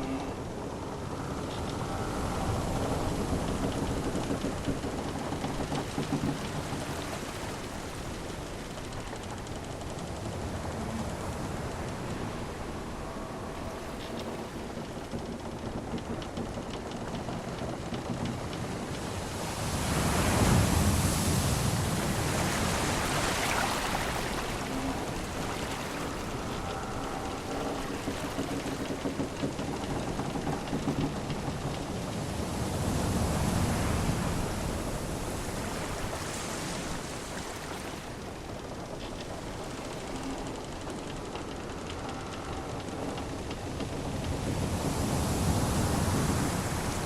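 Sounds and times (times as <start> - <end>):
sea waves washing: 0.0 - 47.0
wooden ship timbers creaking: 0.0 - 47.0.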